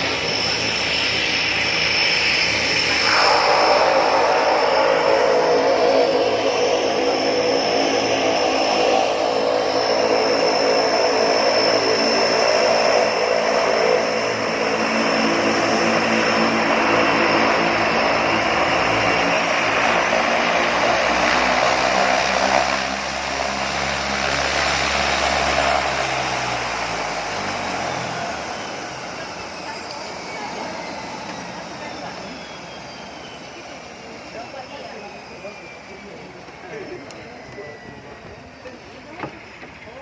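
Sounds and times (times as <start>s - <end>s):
floatplane propeller engine droning: 0.0s - 40.0s.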